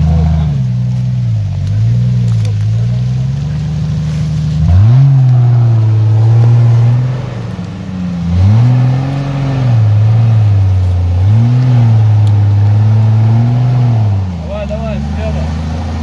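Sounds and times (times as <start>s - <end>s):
engine revving under load: 0.0s - 16.0s.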